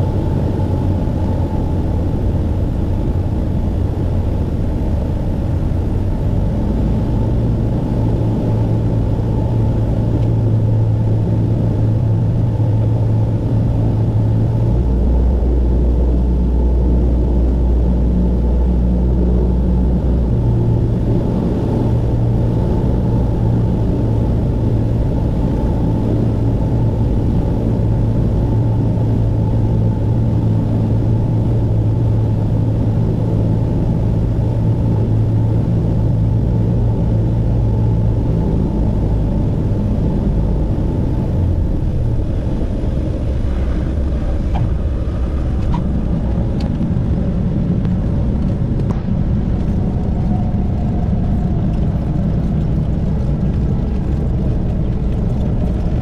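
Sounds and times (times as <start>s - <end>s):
propeller aircraft engine droning: 0.0s - 56.0s.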